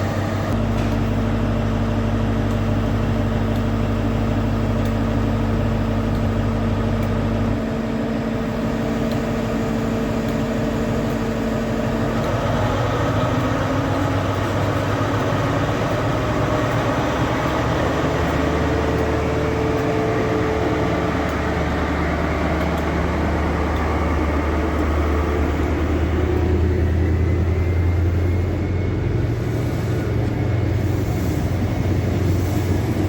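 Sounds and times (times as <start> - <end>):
diesel train engine drone: 0.0 - 33.0
wide rumble: 2.7 - 33.0.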